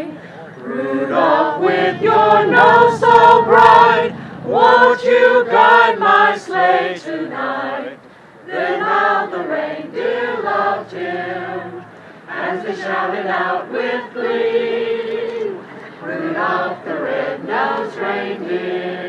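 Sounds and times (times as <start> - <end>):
crowd singing together: 0.0 - 19.0.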